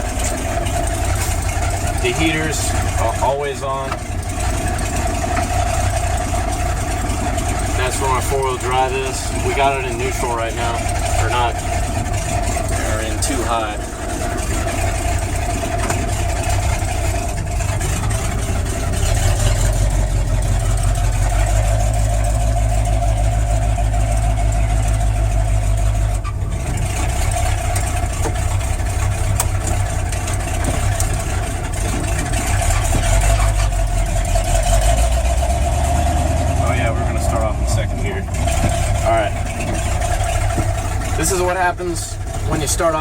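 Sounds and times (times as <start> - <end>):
pickup truck engine running: 0.0 - 43.0.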